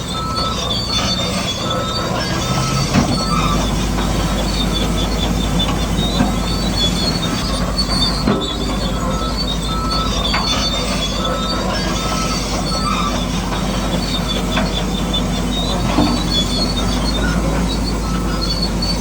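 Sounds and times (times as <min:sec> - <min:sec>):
tracks squealing and clanking: 0:00.0 - 0:19.0.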